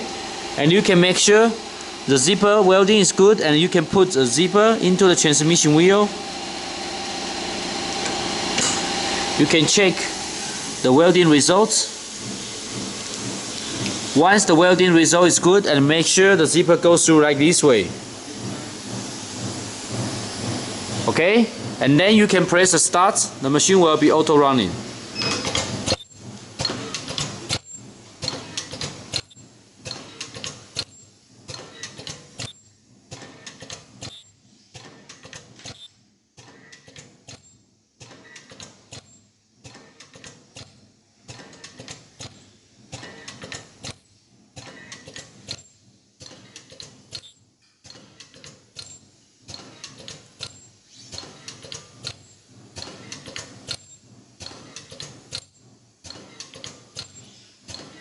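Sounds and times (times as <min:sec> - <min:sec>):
machine clicking and clattering: 0:00.0 - 0:58.0.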